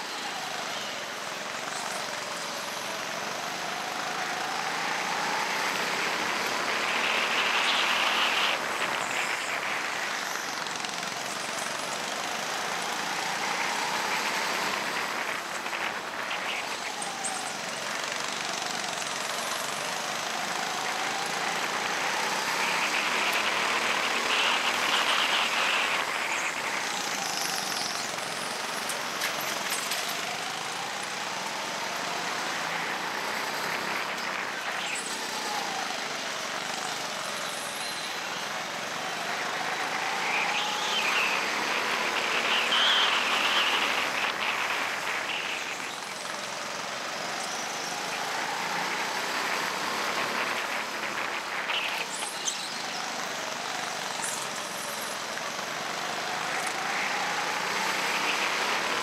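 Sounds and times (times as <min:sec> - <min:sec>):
go-kart engine revving: 0:00.1 - 0:59.0.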